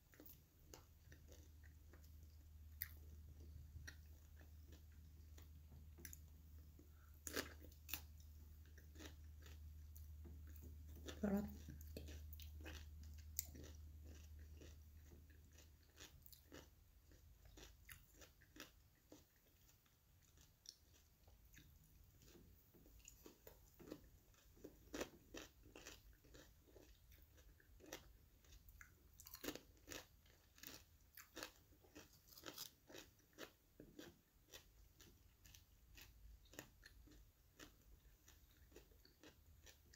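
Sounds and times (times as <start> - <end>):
crunchy chewing: 0.1 - 39.9.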